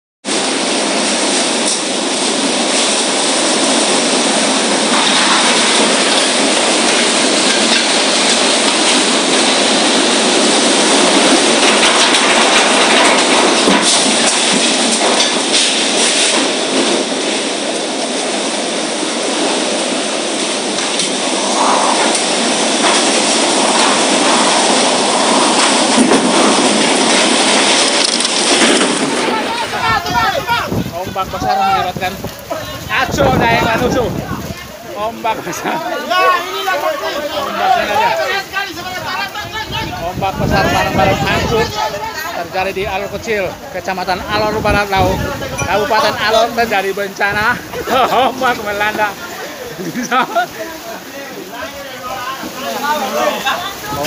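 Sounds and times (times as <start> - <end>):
strong wind through trees: 0.2 - 54.0.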